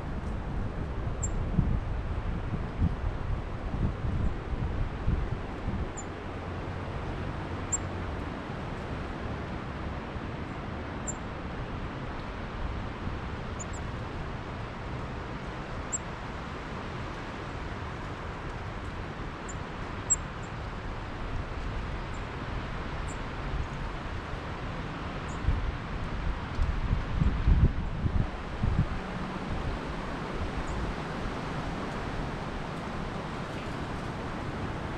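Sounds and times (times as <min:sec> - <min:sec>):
wind rumbling on microphone: 0:00.0 - 0:20.0, 0:20.6 - 0:34.9.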